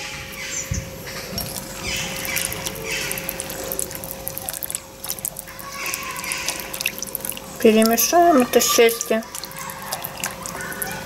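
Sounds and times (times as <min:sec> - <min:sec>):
soup sloshing: 0:01.1 - 0:11.0.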